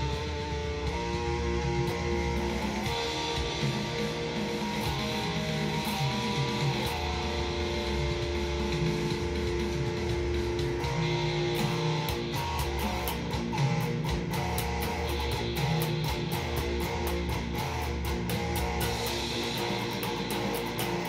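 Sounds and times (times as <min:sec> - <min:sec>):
electric guitar riff: 0:00.0 - 0:21.0.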